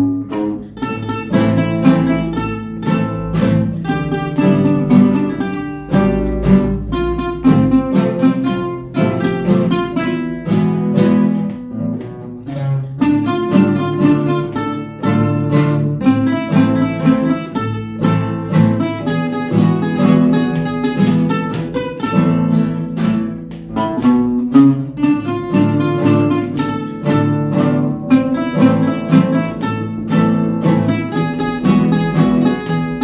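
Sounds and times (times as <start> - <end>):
acoustic guitars playing: 0.0 - 33.0.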